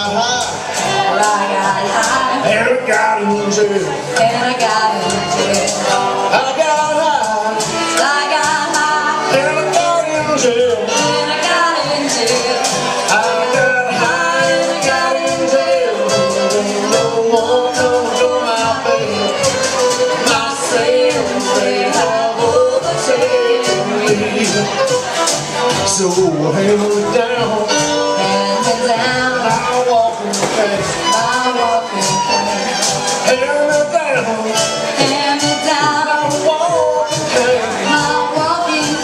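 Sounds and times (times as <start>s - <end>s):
fiddle melody: 0.0s - 39.0s
strummed guitar: 0.0s - 39.0s.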